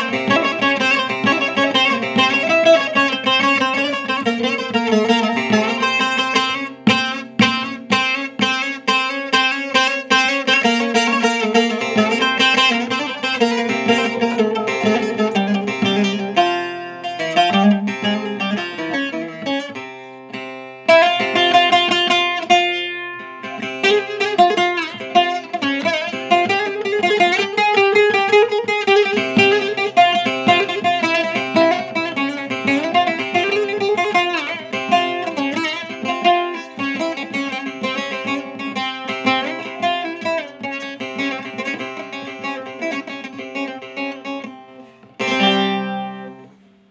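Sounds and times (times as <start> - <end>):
plucked string instrument: 0.0 - 46.9.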